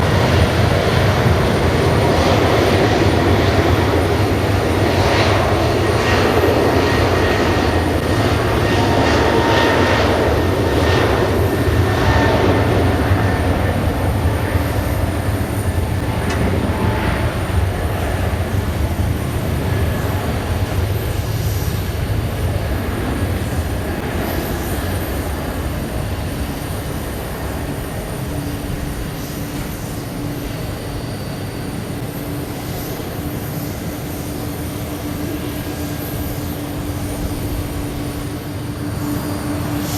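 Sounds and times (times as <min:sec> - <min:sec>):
jet engine rumble: 0:00.0 - 0:39.9.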